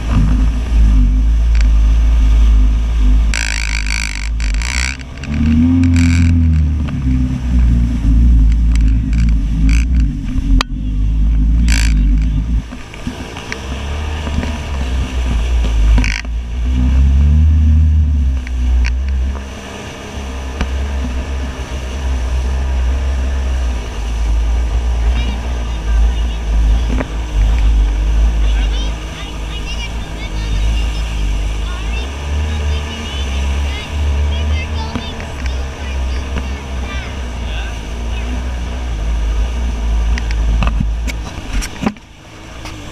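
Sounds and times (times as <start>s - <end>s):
personal watercraft engine: 0.0s - 42.9s.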